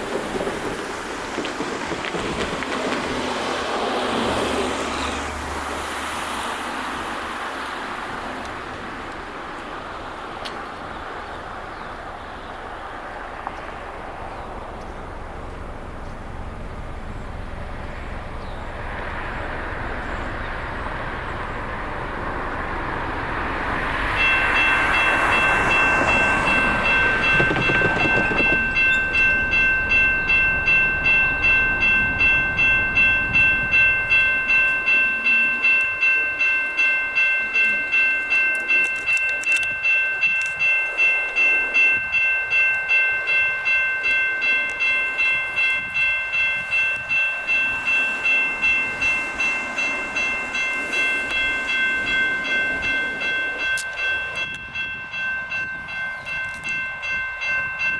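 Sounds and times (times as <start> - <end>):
railroad crossing bells: 0.0 - 57.9
train rumbling past: 0.0 - 57.9.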